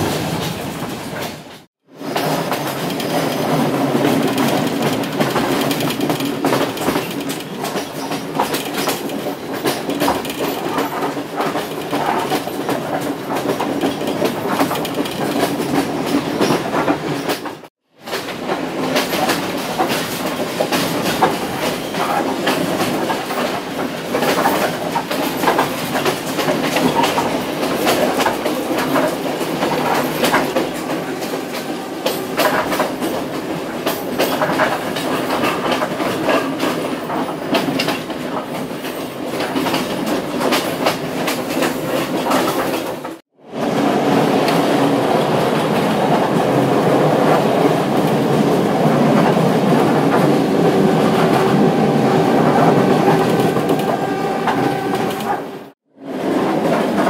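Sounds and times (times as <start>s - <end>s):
wheels clattering on rails: 0.0s - 43.2s, 43.8s - 57.0s
train coach rumble: 0.0s - 57.0s.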